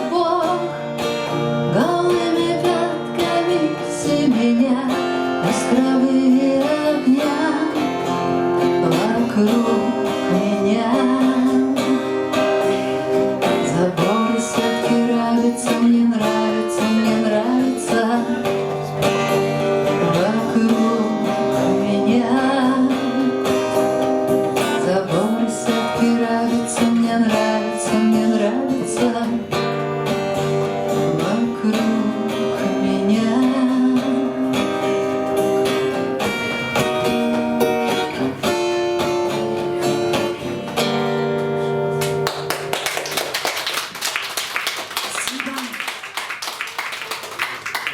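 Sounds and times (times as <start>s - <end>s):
acoustic guitar playing: 0.0s - 43.4s.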